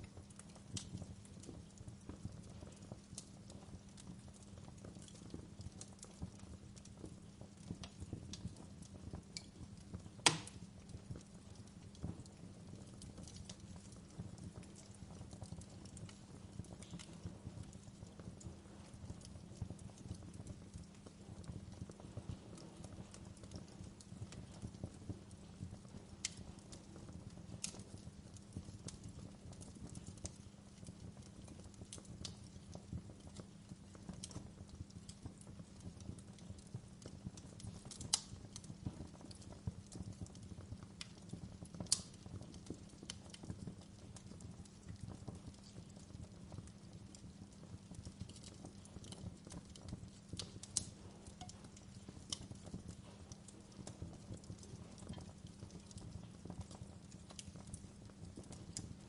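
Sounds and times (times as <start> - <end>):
low steady fire rumble: 0.0 - 59.0
wood fire crackling: 0.0 - 59.0.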